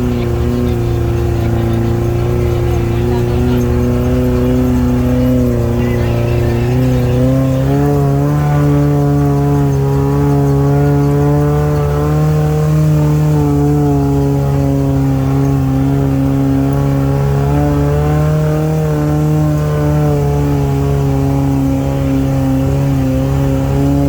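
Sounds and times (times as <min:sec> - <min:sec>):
engine running at raised revs: 0:00.0 - 0:24.0.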